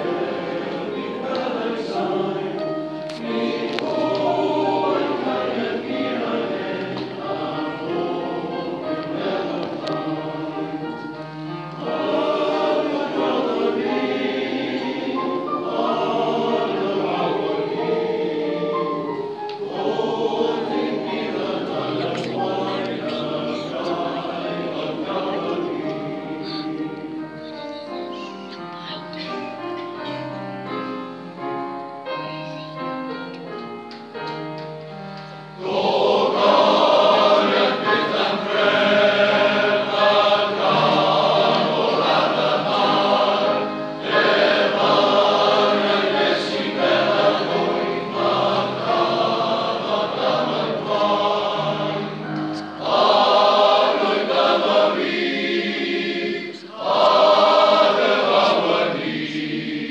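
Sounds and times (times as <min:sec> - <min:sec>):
male voice choir singing: 0:00.0 - 0:27.3, 0:35.6 - 0:59.9.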